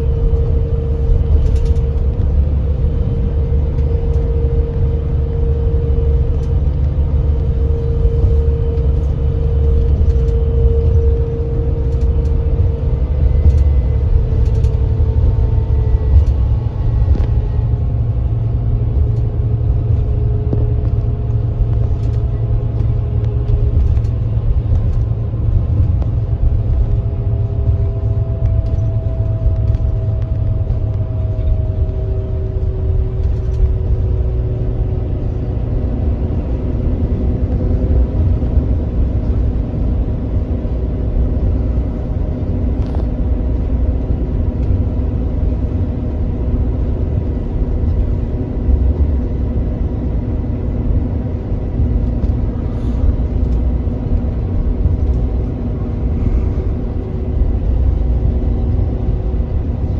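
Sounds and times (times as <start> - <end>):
coach engine and road rumble: 0.0 - 59.9.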